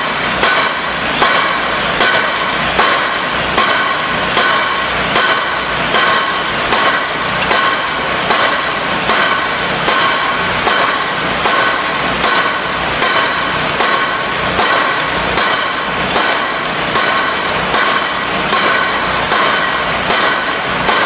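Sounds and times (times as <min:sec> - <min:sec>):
pile driver metallic clangs: 0:00.0 - 0:21.0.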